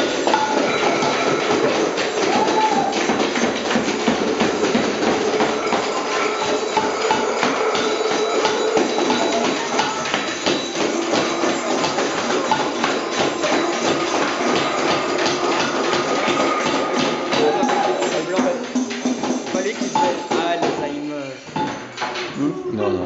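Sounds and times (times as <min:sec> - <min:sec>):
mallet strikes: 0:00.0 - 0:22.4.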